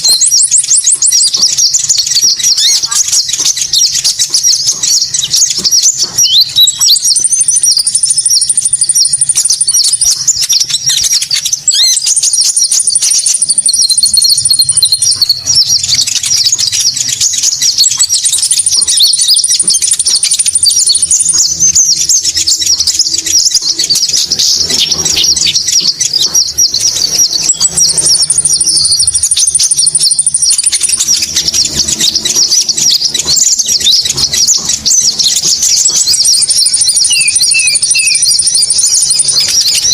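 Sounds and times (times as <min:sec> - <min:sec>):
rapid high-pitched bird chirping: 0:00.0 - 0:39.9
thin high bird trill: 0:00.0 - 0:39.9.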